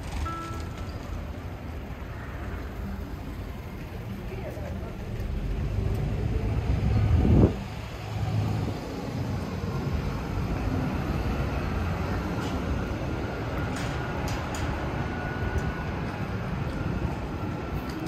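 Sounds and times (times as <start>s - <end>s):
road traffic and bus engines: 0.0s - 18.0s.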